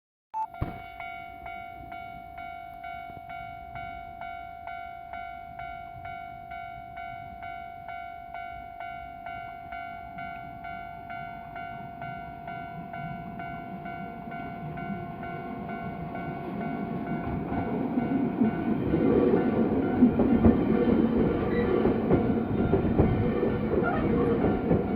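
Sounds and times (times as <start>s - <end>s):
level crossing warning bell: 0.4s - 24.9s.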